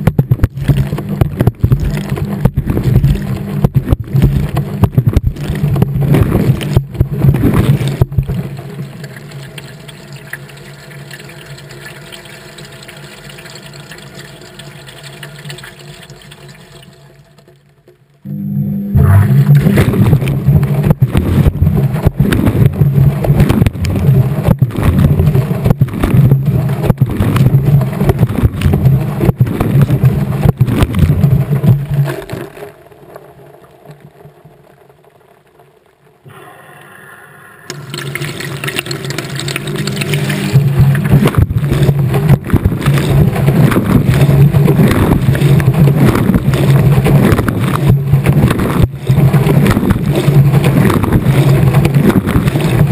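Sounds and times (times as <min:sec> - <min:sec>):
water sloshing in drum: 0:00.0 - 0:17.6, 0:19.5 - 0:32.4, 0:37.7 - 0:52.9
low motor hum: 0:00.0 - 0:33.0, 0:36.3 - 0:52.9.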